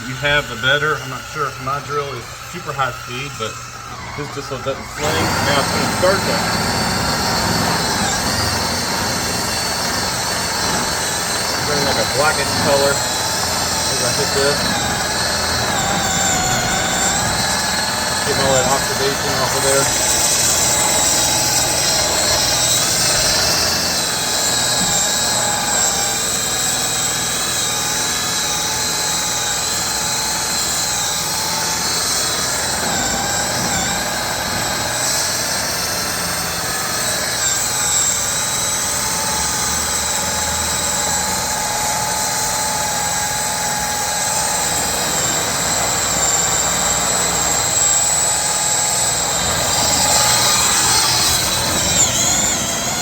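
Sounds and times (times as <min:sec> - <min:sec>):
electric drill motor whining: 0:00.0 - 0:53.0.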